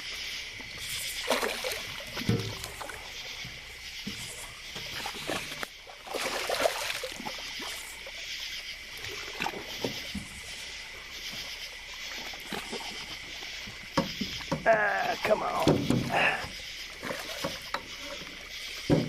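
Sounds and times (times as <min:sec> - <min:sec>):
water splashing against a boat: 0:00.0 - 0:19.0.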